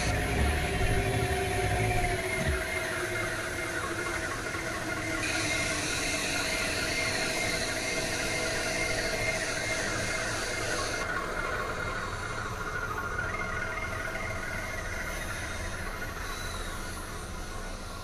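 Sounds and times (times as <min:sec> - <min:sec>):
noise music drone: 0:00.0 - 0:18.0.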